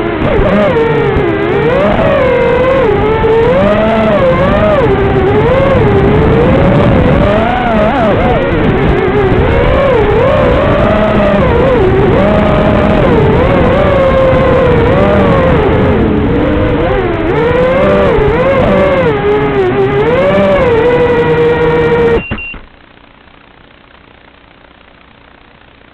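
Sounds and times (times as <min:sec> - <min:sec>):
drone motors whining: 0:00.0 - 0:25.8
faint hum: 0:00.0 - 0:25.9.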